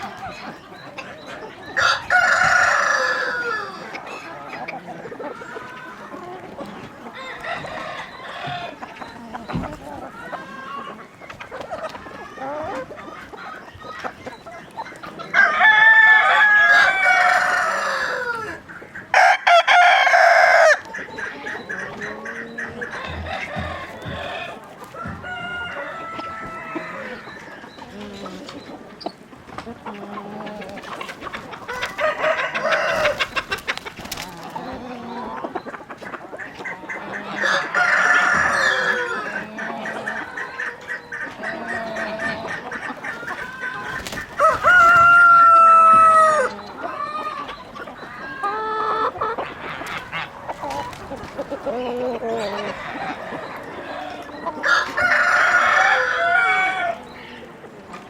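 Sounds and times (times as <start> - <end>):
roosters crowing: 0.0 - 28.9, 29.7 - 58.0
hens clucking: 0.0 - 58.0.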